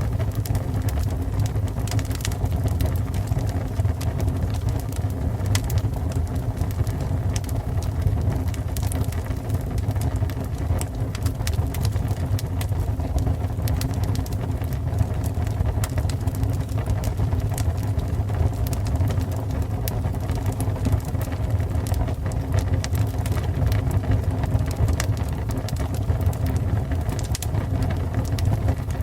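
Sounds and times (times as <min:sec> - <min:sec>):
fire burning with crackles: 0:00.0 - 0:29.0.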